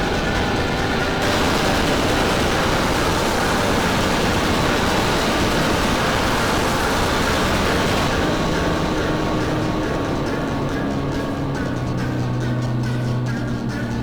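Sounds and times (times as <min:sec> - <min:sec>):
dense distorted music mashup: 0:00.0 - 0:14.0.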